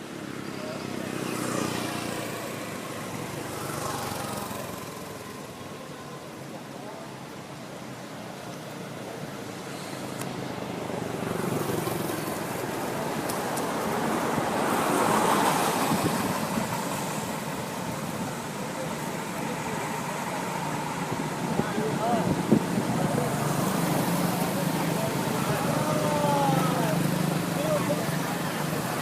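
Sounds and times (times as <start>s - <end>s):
road vehicle passing: 0.0s - 29.0s.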